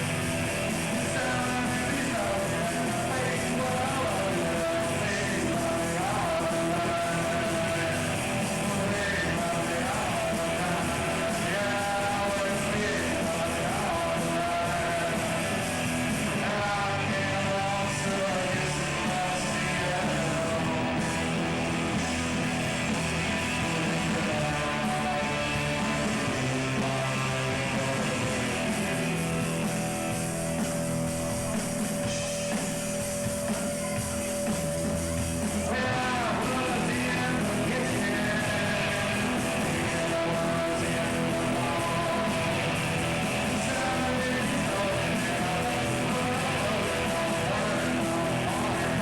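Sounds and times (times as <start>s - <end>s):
rock band playing live: 0.0s - 49.0s.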